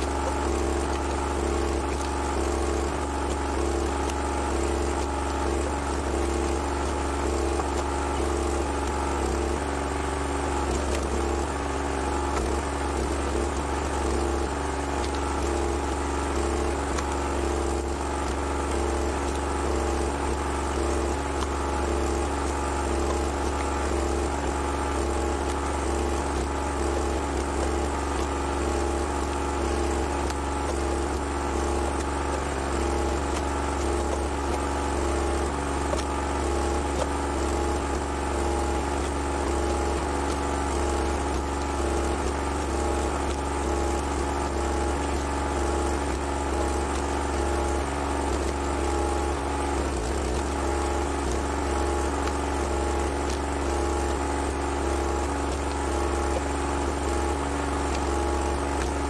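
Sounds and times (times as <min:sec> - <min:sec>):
small gasoline engine running: 0:00.0 - 0:59.0.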